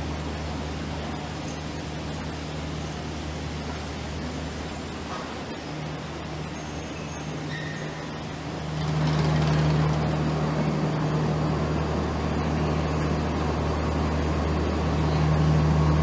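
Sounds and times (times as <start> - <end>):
train machinery humming: 0.0 - 16.0.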